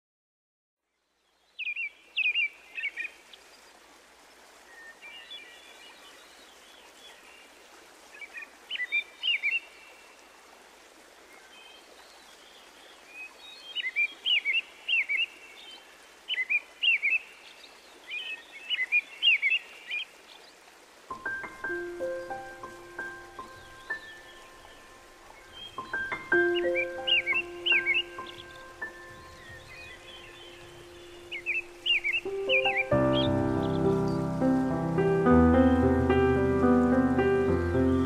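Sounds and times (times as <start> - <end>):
songbird chirping: 0.8 - 10.3, 11.2 - 38.0
faint steady hiss: 0.8 - 38.0.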